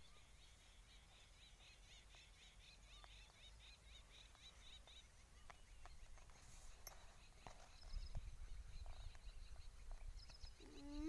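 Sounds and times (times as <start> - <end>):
quiet outdoor ambience: 0.0 - 11.0.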